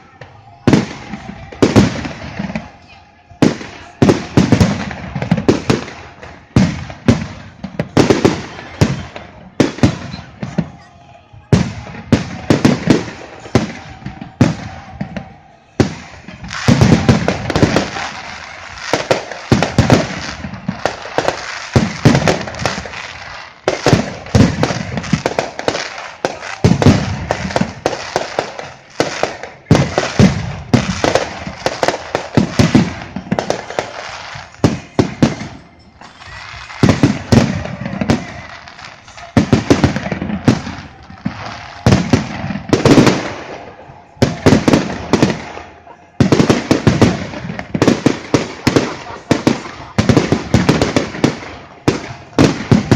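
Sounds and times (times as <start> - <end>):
fireworks bangs: 0.0 - 52.9
fireworks crackling: 0.0 - 52.9.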